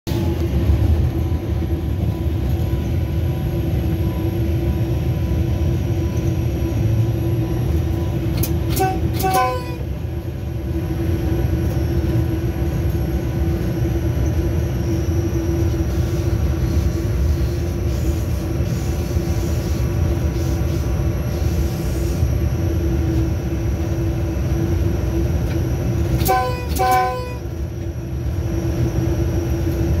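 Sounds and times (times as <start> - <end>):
diesel locomotive rumbling: 0.1 - 30.0.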